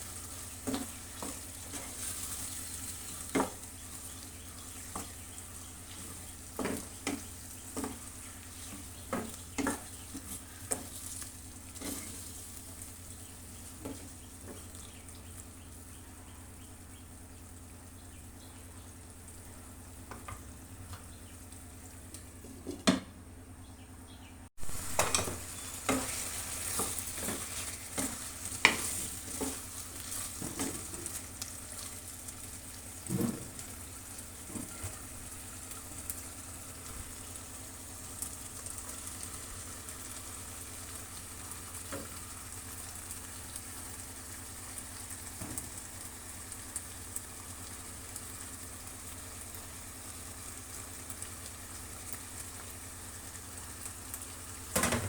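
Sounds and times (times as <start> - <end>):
food sizzling in hot oil: 0.0 - 15.9, 24.6 - 55.0.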